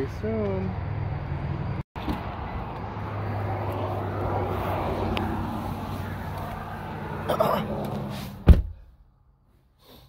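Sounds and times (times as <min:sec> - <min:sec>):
traffic engine drone: 0:00.0 - 0:09.8.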